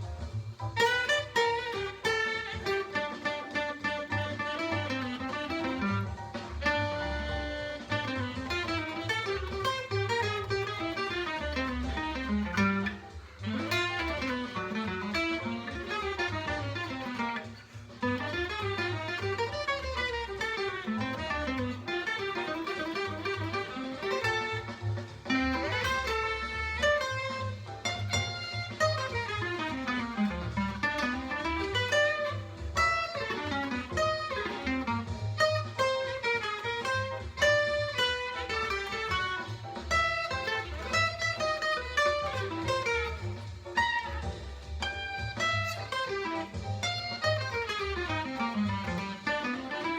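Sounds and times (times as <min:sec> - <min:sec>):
acoustic guitar jazz solo: 0:00.0 - 0:49.9.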